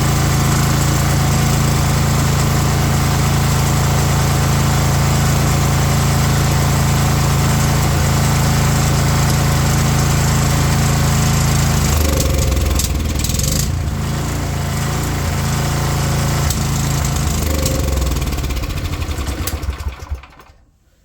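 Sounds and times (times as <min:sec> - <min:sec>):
small petrol engine running: 0:00.0 - 0:20.6.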